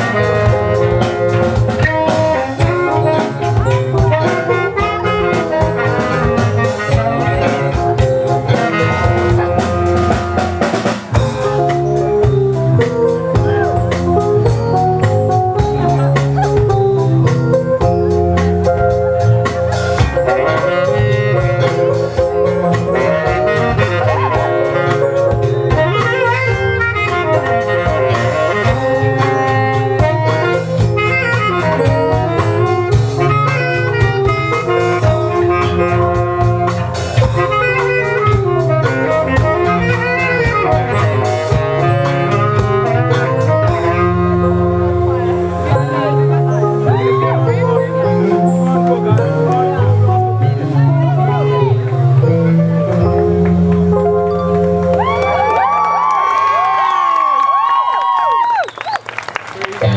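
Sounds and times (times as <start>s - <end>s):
drum kit steady beat: 0.0s - 57.7s
saxophone melody: 0.0s - 57.8s.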